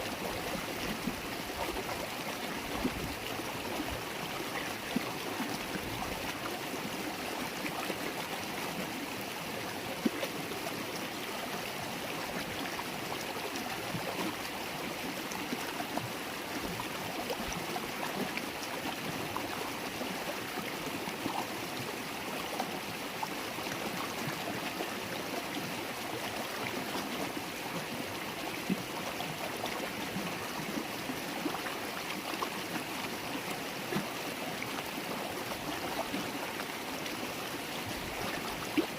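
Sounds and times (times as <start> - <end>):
river water babbling: 0.0 - 38.9.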